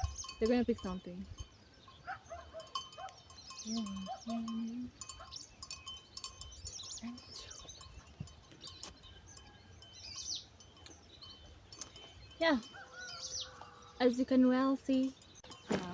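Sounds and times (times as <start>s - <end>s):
birds chirping: 0.0s - 15.9s
farm animal calls: 0.0s - 15.9s.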